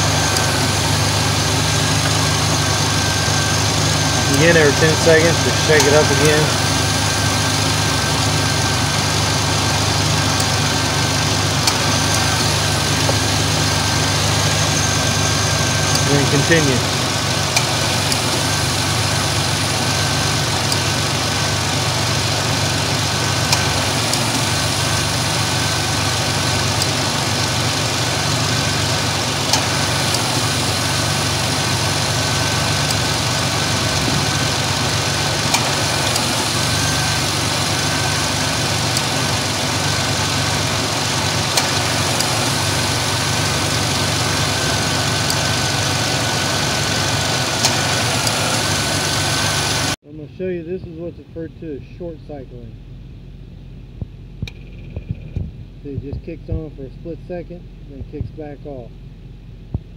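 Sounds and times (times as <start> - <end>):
compressor clutch click: 0.0 - 50.0, 54.4 - 55.4
car engine idling: 0.0 - 59.9.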